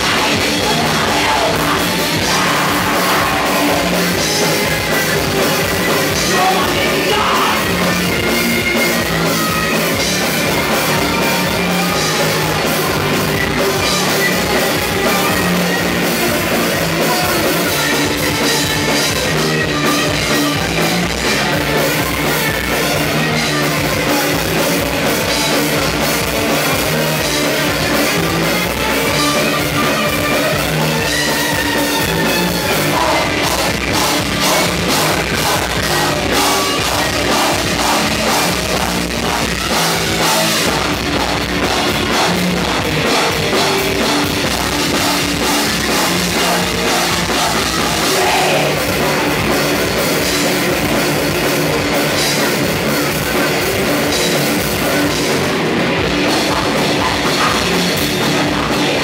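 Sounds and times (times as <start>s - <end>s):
distorted electric guitars: 0.0s - 59.0s
fast drumming on drum kit: 0.0s - 59.0s.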